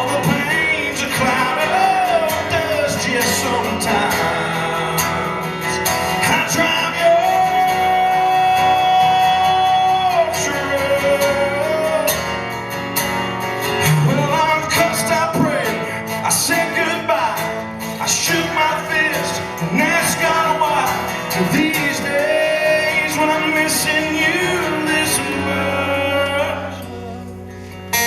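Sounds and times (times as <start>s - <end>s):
man singing: 0.0s - 12.4s, 13.8s - 28.0s
country band with guitar: 0.0s - 28.0s.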